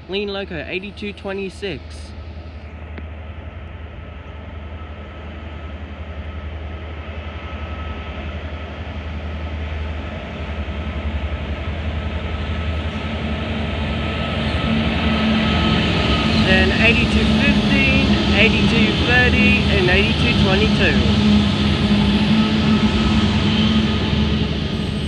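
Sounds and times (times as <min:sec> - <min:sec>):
diesel locomotive engines droning: 0:00.0 - 0:25.0
train wheels rumbling on rails: 0:00.0 - 0:25.0.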